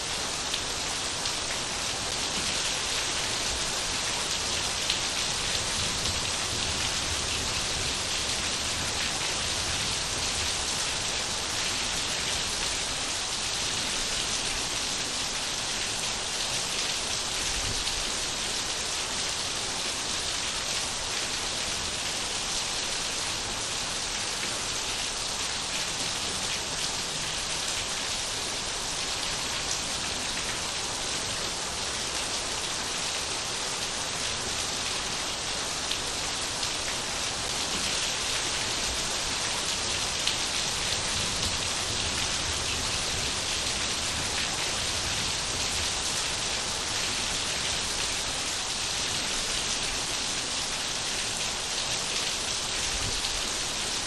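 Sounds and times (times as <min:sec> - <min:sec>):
dense rainfall: 0:00.0 - 0:54.0.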